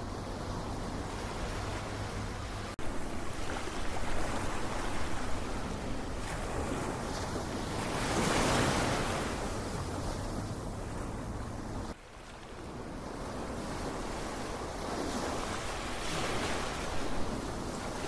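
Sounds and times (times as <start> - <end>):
ocean waves washing: 0.0 - 18.0.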